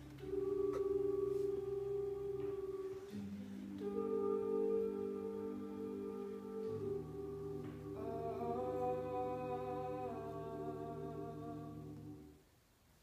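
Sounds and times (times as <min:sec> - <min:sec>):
male choir singing a chord: 0:00.1 - 0:12.3.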